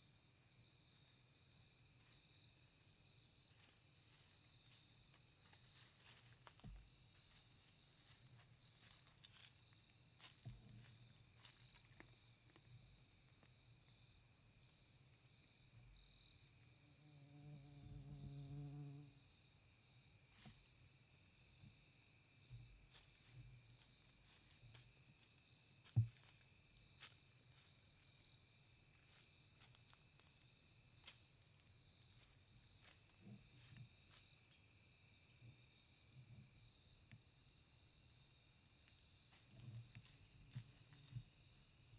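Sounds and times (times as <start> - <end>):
crickets trilling: 1.6 - 19.3, 22.3 - 41.9.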